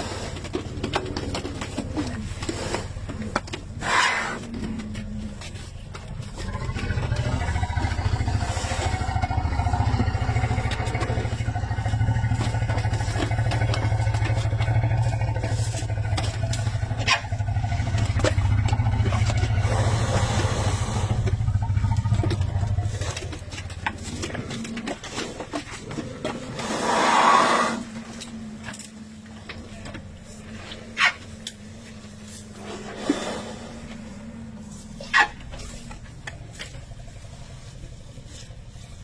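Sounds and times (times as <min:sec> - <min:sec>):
elephants rumbling: 0:00.0 - 0:39.0.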